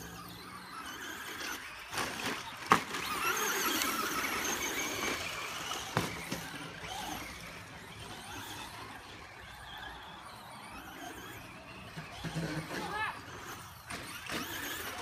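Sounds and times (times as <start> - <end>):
toy car motors whining: 0.0 - 15.0.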